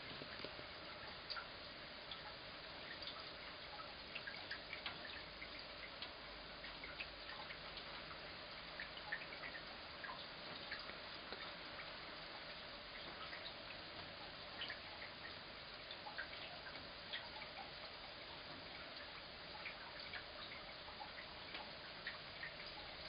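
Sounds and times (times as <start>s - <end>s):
drops dripping: 0.0s - 23.0s
rain hiss: 0.0s - 23.0s.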